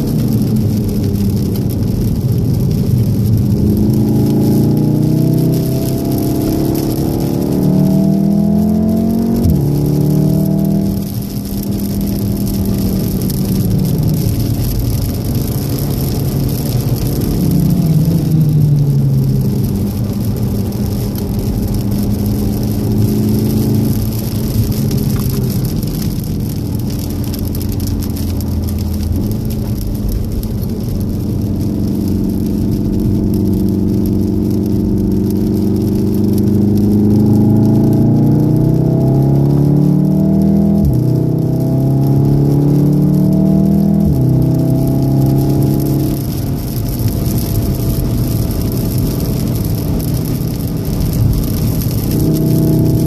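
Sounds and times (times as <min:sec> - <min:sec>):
car engine accelerating: 0:00.0 - 0:53.0
wet road hiss: 0:00.0 - 0:53.0.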